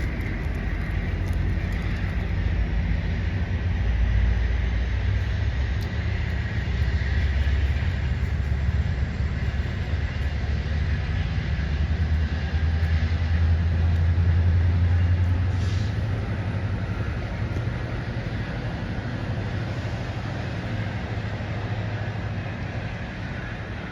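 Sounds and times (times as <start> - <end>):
diesel train rumbling: 0.0 - 23.9.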